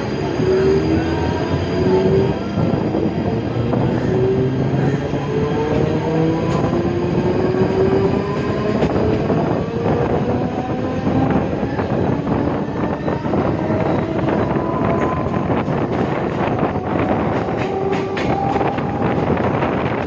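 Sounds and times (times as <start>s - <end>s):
train wheels and air rushing: 0.0s - 20.0s.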